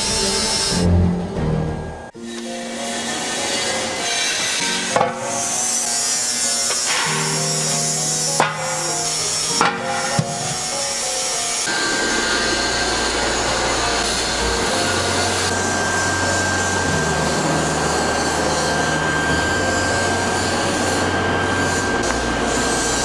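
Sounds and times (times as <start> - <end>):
low hum shifting in pitch: 0.0 - 6.0, 7.0 - 23.0
machinery drone: 0.0 - 23.0
thin steady whine: 0.0 - 23.0.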